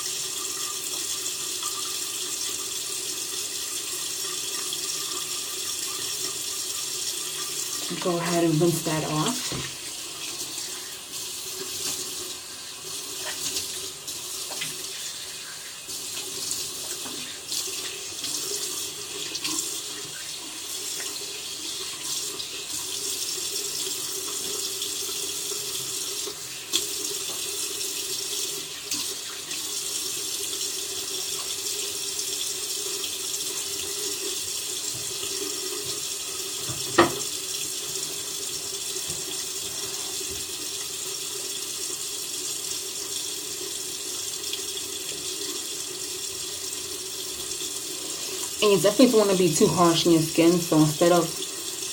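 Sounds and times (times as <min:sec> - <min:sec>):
tap water running into sink: 0:00.0 - 0:51.9.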